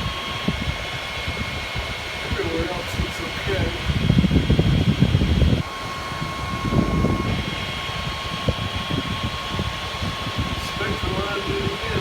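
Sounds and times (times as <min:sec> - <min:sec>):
air conditioner fan rumble: 0:00.0 - 0:12.0
thin steady whine: 0:00.0 - 0:12.0.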